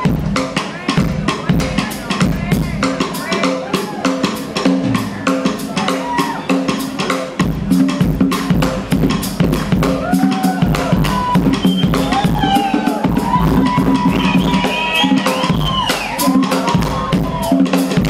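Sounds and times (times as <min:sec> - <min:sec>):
bass drum: 0:00.0 - 0:18.0
drum solo: 0:00.0 - 0:18.0.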